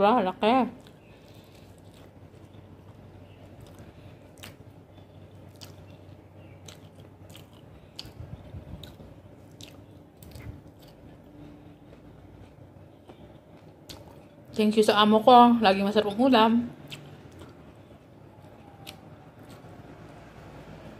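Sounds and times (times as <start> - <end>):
close chewing with mouth clicks: 0.8 - 14.6, 16.8 - 19.8.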